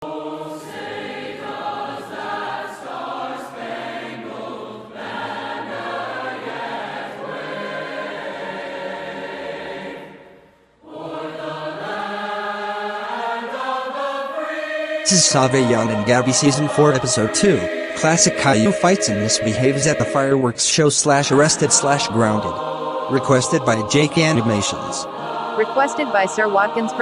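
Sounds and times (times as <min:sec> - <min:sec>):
choir singing sustained notes: 0:00.0 - 0:27.0.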